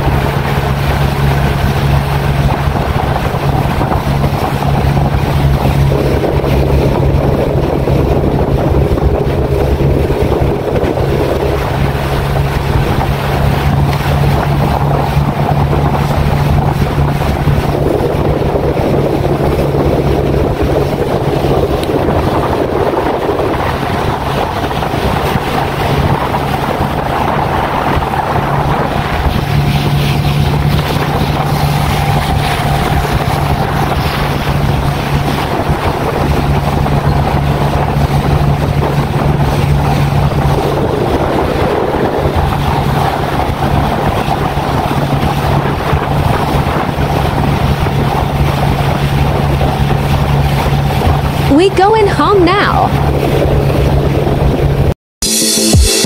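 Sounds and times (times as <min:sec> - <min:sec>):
outboard motor running: 0:00.0 - 0:54.9
wind buffeting microphone: 0:00.0 - 0:55.0.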